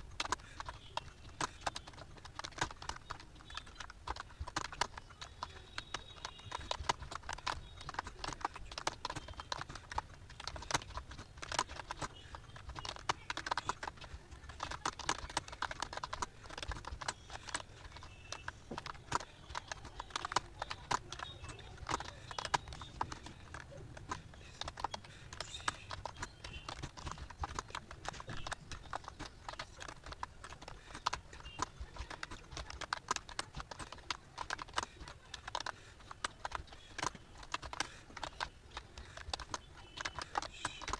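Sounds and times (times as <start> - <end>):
fast typing on keyboard: 0.0 - 40.9.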